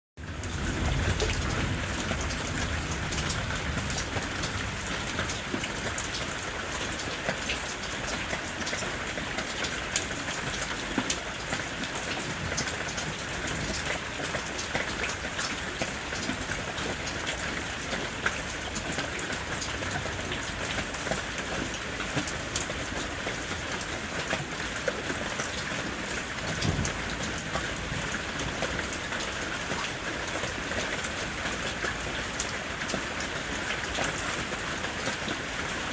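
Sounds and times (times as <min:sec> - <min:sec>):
heavy rain falling: 0:00.2 - 0:35.9.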